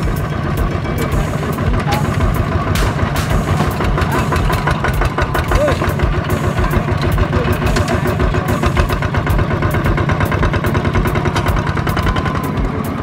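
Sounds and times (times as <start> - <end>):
diesel engine chugging idle: 0.0 - 13.0.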